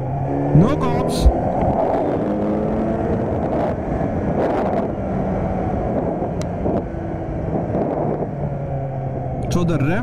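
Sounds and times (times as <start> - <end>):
motorcycle engine at speed: 0.0 - 10.0
wind rushing over microphone: 0.0 - 10.0.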